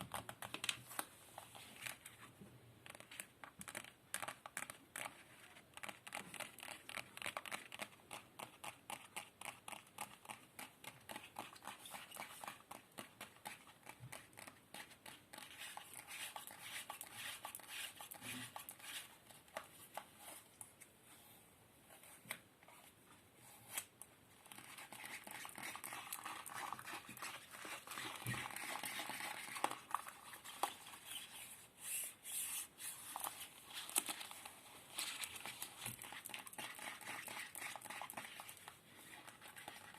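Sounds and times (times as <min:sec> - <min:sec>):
crinkling and scratching: 0:00.0 - 0:21.3, 0:21.9 - 0:39.9.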